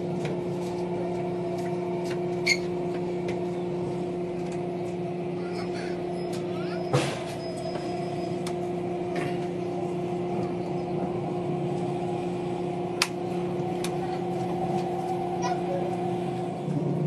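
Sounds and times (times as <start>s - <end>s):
train carriage hum: 0.0s - 17.0s.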